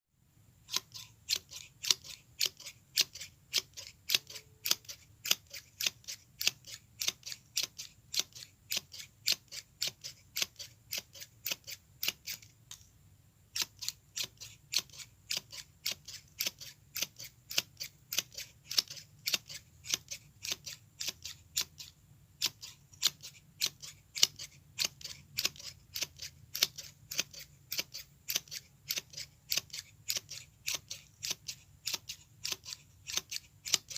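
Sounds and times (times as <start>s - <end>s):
scissors snipping: 0.7s - 12.9s, 13.5s - 33.9s.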